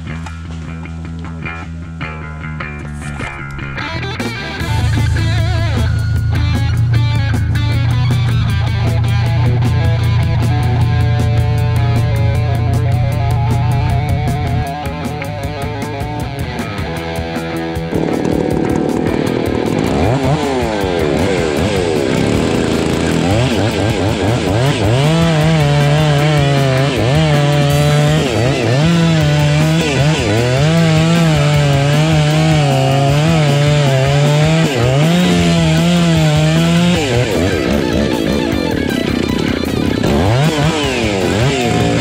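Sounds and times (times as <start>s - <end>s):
guitar music: 0.0s - 42.0s
chainsaw revving: 2.9s - 42.0s.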